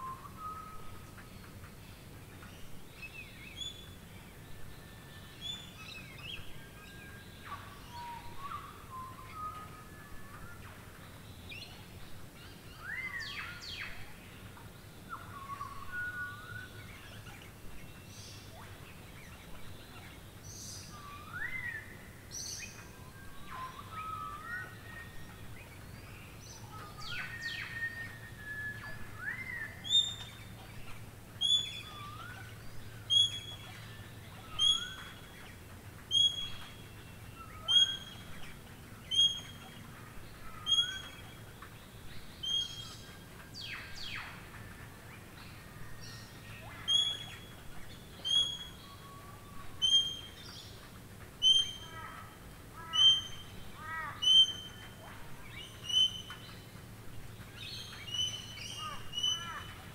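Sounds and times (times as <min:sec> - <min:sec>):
birds chirping and whistling: 0:00.0 - 0:59.9
rainfall hiss: 0:00.0 - 0:59.9.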